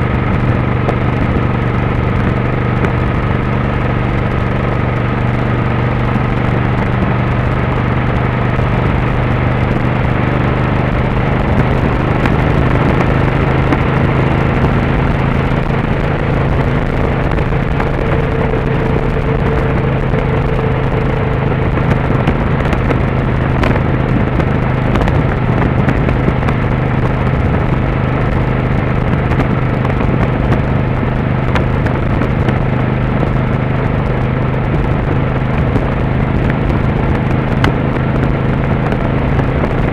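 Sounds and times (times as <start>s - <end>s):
motorcycle engine droning: 0.0s - 39.9s
road and wind noise: 0.0s - 39.9s.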